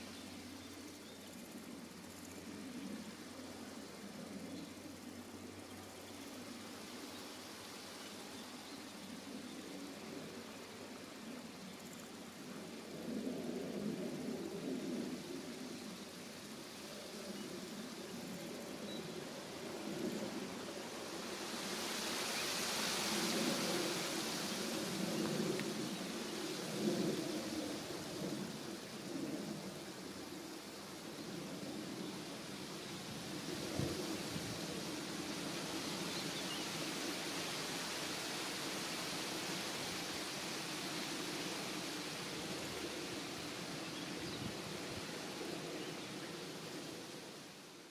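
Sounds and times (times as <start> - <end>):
steady rushing hiss: 0.0 - 47.9.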